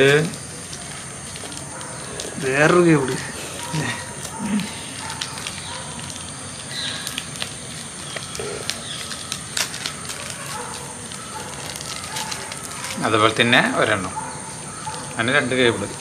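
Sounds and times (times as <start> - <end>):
rustling of unpacking: 0.0 - 16.0.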